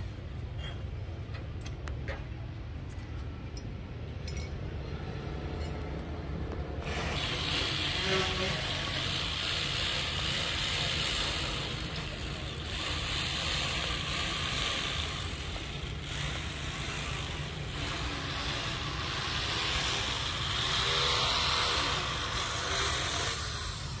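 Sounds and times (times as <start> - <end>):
road traffic rumble and hiss: 0.0 - 24.0.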